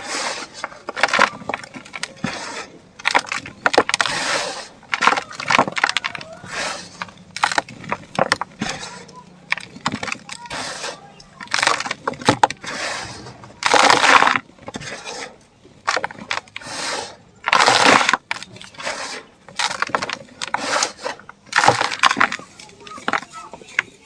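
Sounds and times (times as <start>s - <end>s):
dirt and cement crumbling: 0.0s - 24.0s.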